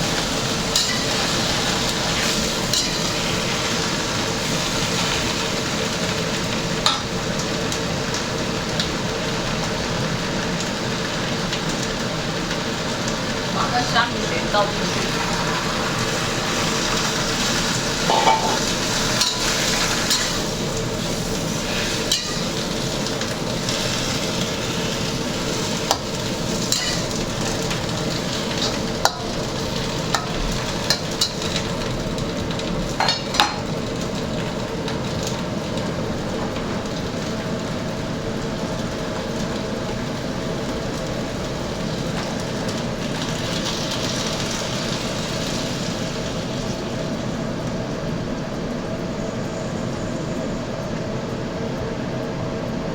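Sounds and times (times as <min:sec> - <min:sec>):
food sizzling in a pan: 0:00.0 - 0:50.7
steady hum: 0:00.0 - 0:52.9.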